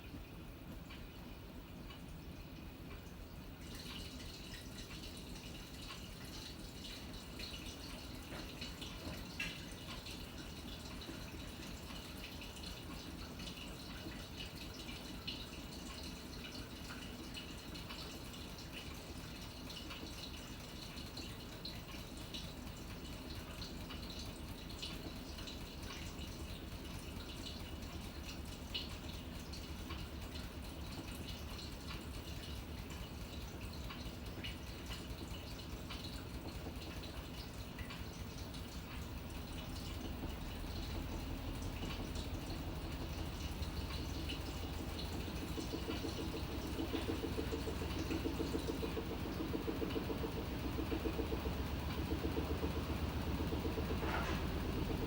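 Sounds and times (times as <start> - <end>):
washing machine humming: 0.0 - 55.0
water trickling and splashing: 3.0 - 55.0.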